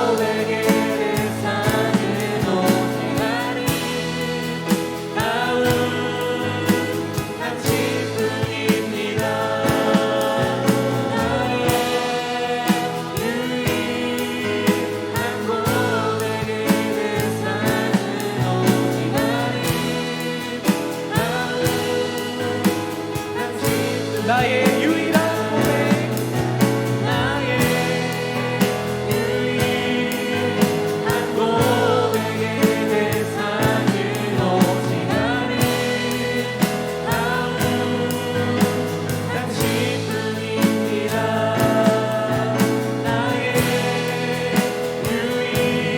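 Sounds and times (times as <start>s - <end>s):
instrumental accompaniment: 0.0s - 45.9s
worship song singing: 0.0s - 45.9s.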